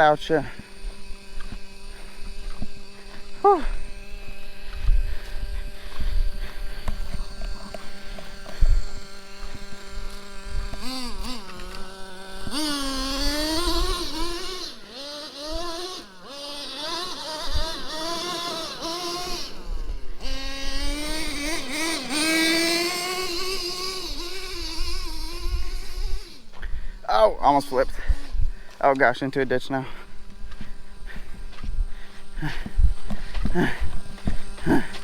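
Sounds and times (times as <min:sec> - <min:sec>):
small nitro engine revving: 0:00.0 - 0:35.0.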